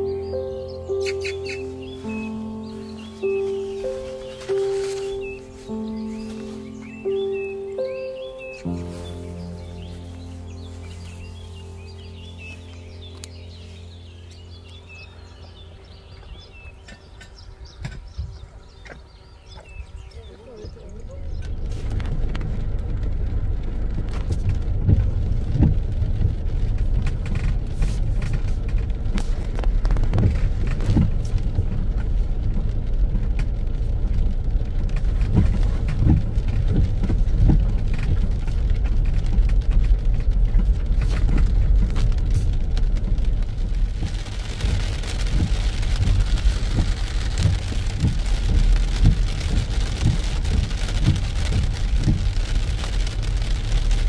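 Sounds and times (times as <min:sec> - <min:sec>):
car rolling on a wet road: 0:00.0 - 0:54.0
rain tapping on a car roof: 0:00.0 - 0:54.0.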